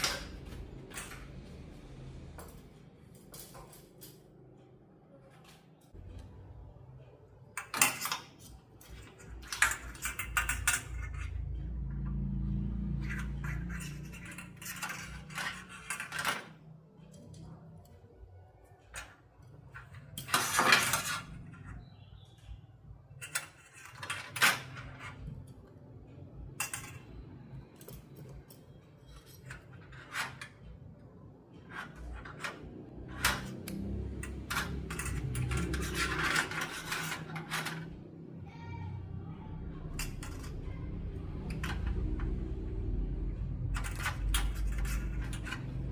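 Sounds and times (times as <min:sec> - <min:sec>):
metal parts and tools clinking: 0:00.0 - 0:06.5, 0:07.1 - 0:18.0, 0:18.7 - 0:38.3, 0:39.5 - 0:45.9.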